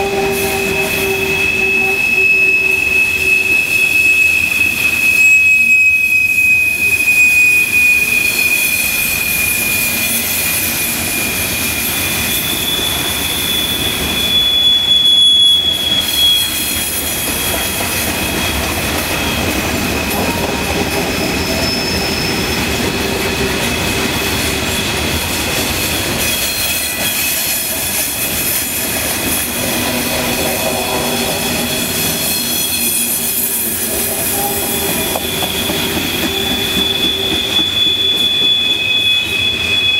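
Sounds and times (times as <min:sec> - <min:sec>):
rumble of wheels on rail: 0:00.0 - 0:39.9
train wheels squealing: 0:00.0 - 0:39.9.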